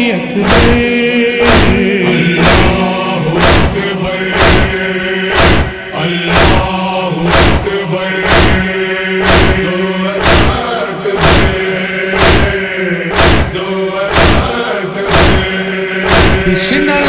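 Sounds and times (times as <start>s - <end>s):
chest-beating thumps: 0.4s - 16.8s.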